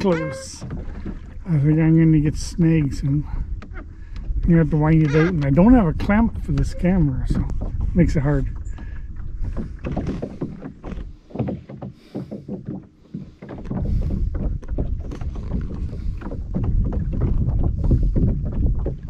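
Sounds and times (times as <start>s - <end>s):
water splashing against hull: 0.0s - 19.0s
wind buffeting microphone: 0.0s - 19.0s.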